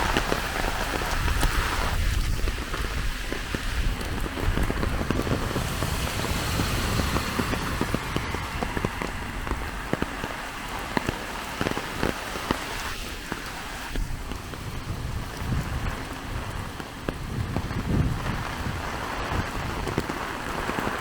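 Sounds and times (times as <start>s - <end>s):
heavy rain: 0.0s - 21.0s
raindrops ticking close by: 0.0s - 21.0s.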